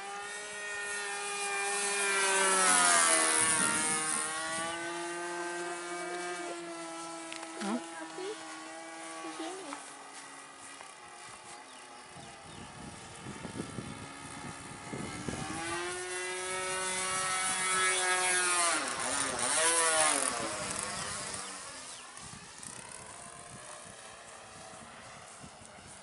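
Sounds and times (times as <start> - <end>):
model airplane engine buzzing: 0.0 - 26.0.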